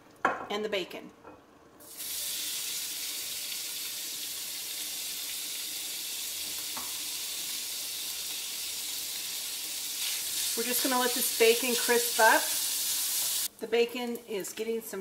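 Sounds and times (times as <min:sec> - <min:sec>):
bacon sizzling in oil: 0:01.8 - 0:14.3.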